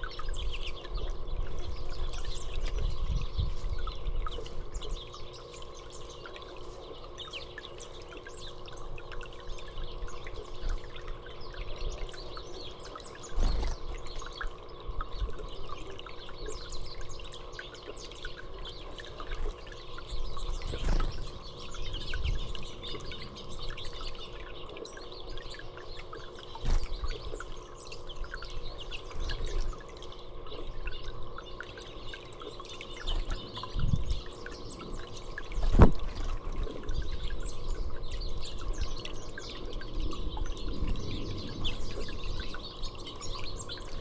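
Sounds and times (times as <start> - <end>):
small birds chirping: 0.0 - 44.0
trickling water: 0.0 - 44.0.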